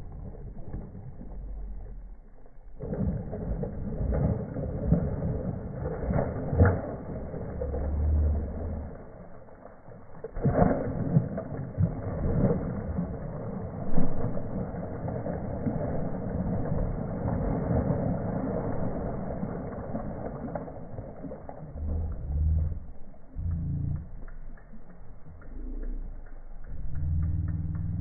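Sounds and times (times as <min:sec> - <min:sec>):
fish splashing in water: 0:00.0 - 0:26.3
low rumble: 0:00.0 - 0:28.0.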